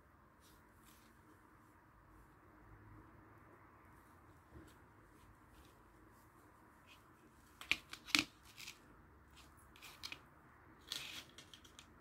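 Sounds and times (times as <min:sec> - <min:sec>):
crochet hook and yarn rustles: 0:00.0 - 0:03.1, 0:03.8 - 0:12.0
faint steady hiss: 0:00.0 - 0:12.0.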